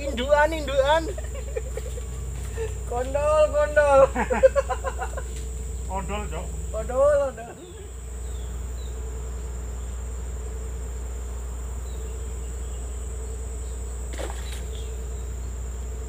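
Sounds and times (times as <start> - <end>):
faint chirps: 0.0 - 16.0
high-pitched insect drone: 0.0 - 16.0
steady low hum: 0.0 - 16.0
wavering low trill: 0.0 - 16.0.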